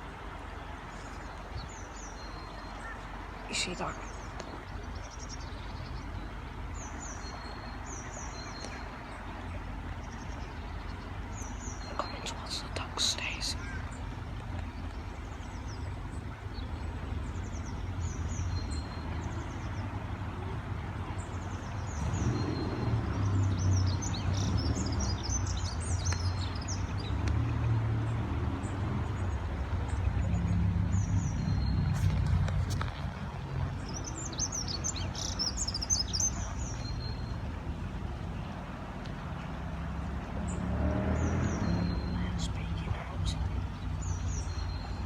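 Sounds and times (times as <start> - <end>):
songbirds chirping: 0.0 - 45.0.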